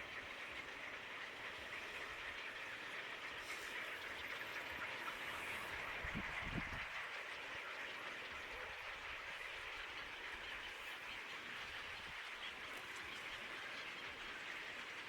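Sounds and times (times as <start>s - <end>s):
outdoor hiss-like drone: 0.0s - 15.0s.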